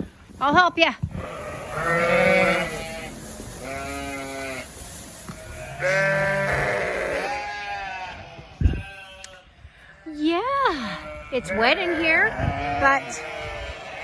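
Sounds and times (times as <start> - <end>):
sheep bleating: 1.2 - 9.4, 10.1 - 14.0.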